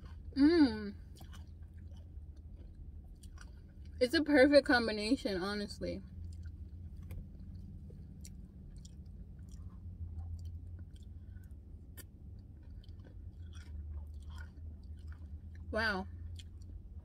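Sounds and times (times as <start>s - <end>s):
chewing and smacking: 0.0s - 4.1s, 6.0s - 17.0s
low steady hum: 0.0s - 17.0s.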